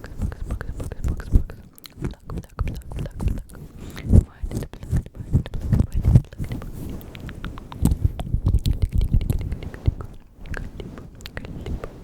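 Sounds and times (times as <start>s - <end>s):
wet mouth clicks and smacks: 0.0s - 11.6s
muffled low rumbles: 0.0s - 12.0s.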